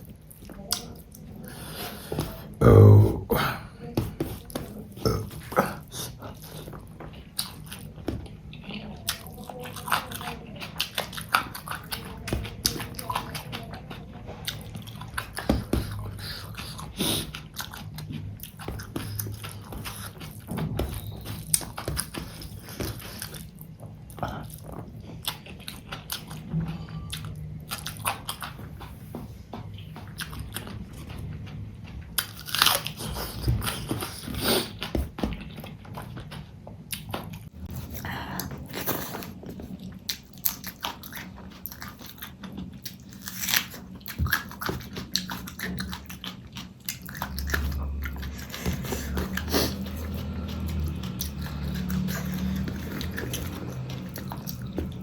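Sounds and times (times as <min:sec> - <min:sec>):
chewing and biting food: 0:00.0 - 0:55.0.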